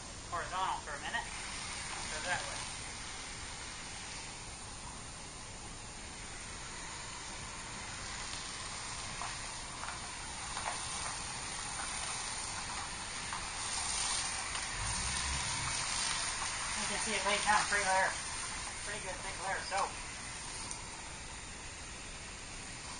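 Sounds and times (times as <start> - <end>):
hiss of foam spray nozzle: 1.0 - 22.9.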